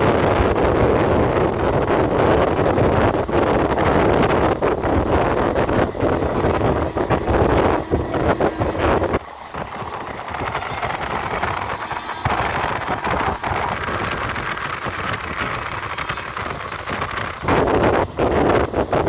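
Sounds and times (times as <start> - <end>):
train running: 0.0 - 19.0
wind buffeting microphone: 0.0 - 19.0.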